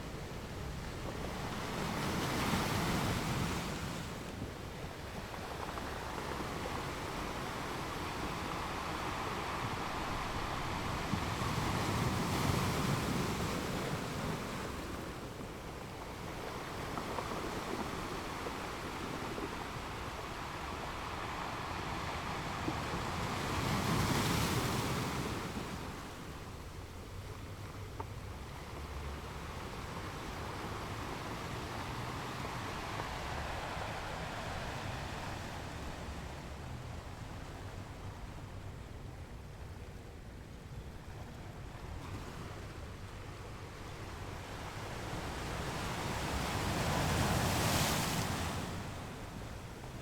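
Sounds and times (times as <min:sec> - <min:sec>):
ocean waves breaking on beach: 0:00.0 - 0:38.9, 0:41.6 - 0:50.0.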